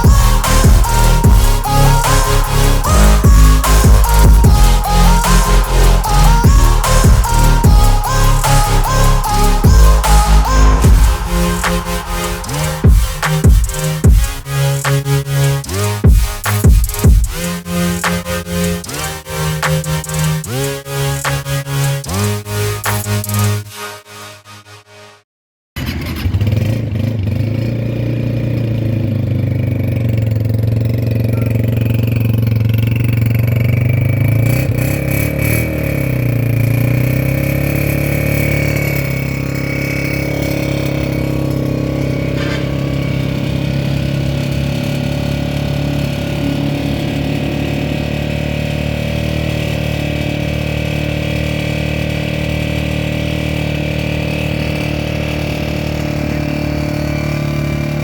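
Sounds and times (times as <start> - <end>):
motorcycle engine running: 0.0 - 23.3, 25.8 - 58.0.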